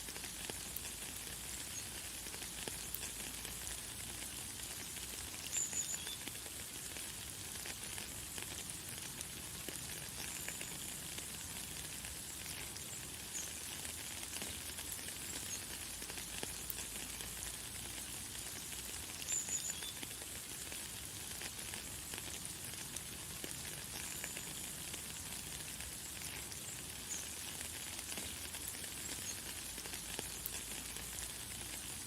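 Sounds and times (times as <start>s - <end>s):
light rain pattering: 0.0s - 32.0s.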